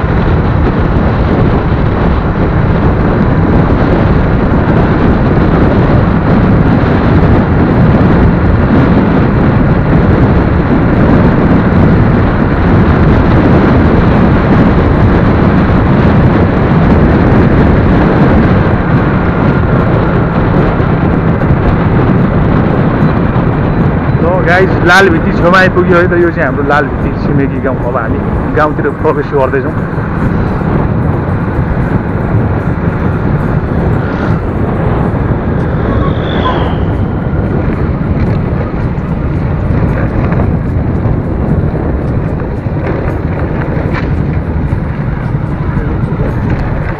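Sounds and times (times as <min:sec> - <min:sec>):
motorcycle engine and tyre noise: 0:00.0 - 0:46.9
wind buffeting microphone: 0:00.0 - 0:46.9.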